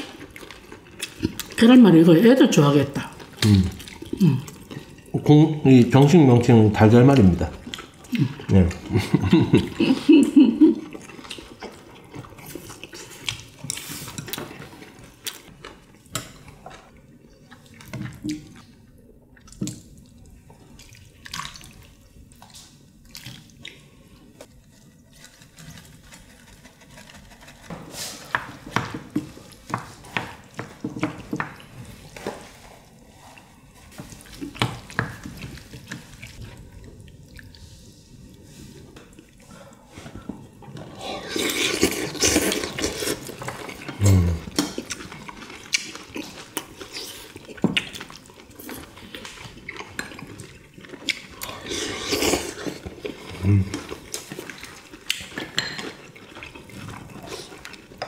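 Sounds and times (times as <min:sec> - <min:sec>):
chewing and slurping: 0:00.0 - 0:01.6, 0:02.7 - 0:05.3, 0:07.1 - 0:58.0.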